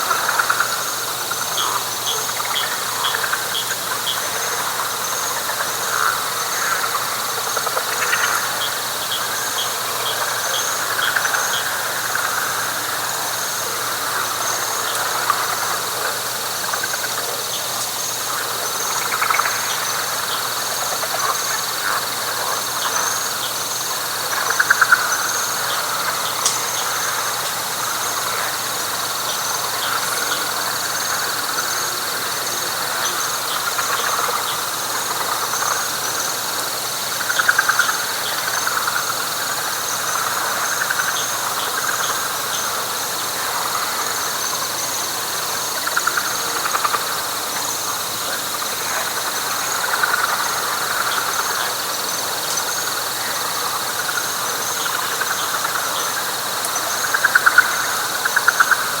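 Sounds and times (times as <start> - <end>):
frog chorus: 0.0 - 59.0.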